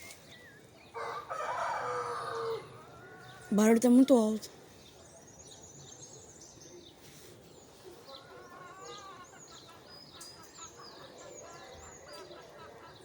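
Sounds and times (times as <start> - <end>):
faint steady background rush: 0.0 - 13.0.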